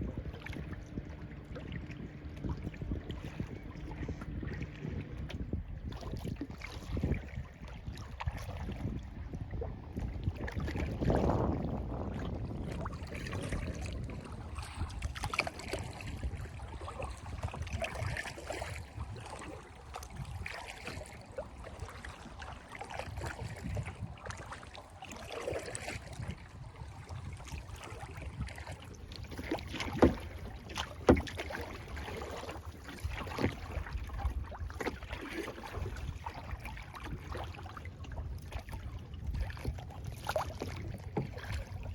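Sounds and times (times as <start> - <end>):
paddle splashing in water: 0.0 - 41.9.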